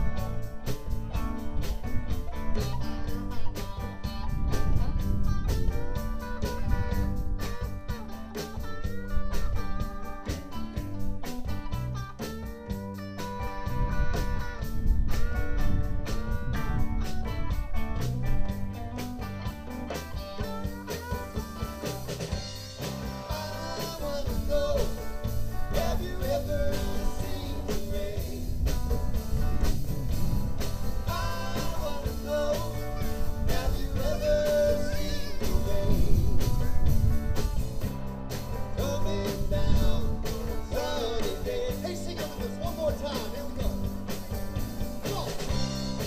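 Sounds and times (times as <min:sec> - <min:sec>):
bass guitar: 0:00.0 - 0:46.0
drums: 0:00.0 - 0:46.0
electric guitars: 0:00.0 - 0:46.0.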